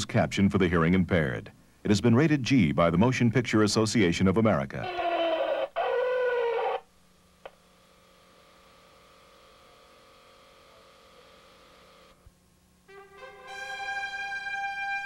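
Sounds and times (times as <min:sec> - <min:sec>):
faint mains hum: 0:00.0 - 0:15.0.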